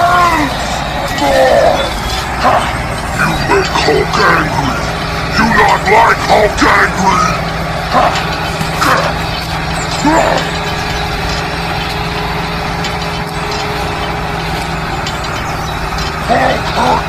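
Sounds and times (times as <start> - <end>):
toy tractor engine hum: 0.0 - 17.0.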